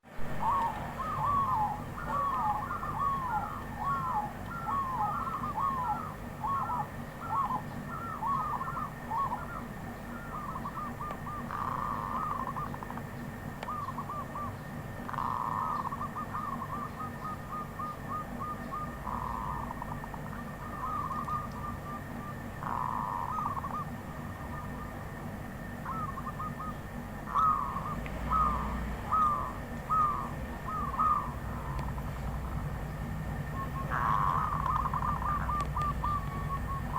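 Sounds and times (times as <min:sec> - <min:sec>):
dove rapid trills: 0:00.1 - 0:36.9
dove cooing: 0:00.2 - 0:36.9.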